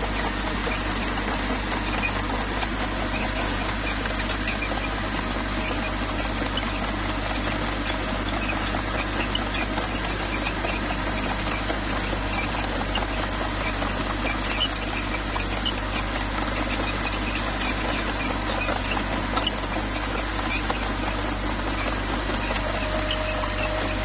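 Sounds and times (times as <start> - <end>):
bulldozer engine running: 0.0 - 24.0
small high squeaks and clicks: 0.2 - 24.0.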